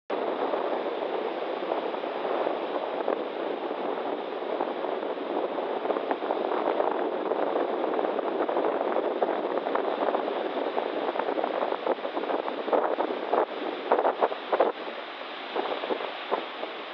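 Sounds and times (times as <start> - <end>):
waves breaking on a beach: 0.2 - 16.9.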